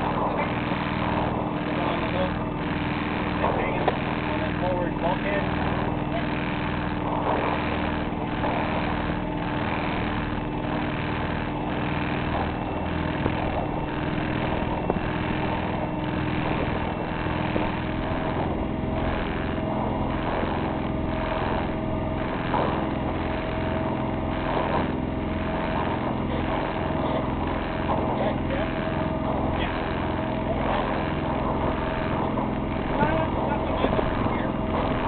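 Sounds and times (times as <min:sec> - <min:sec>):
boat engine running: 0:00.0 - 0:35.0
high steady tone: 0:00.0 - 0:35.0.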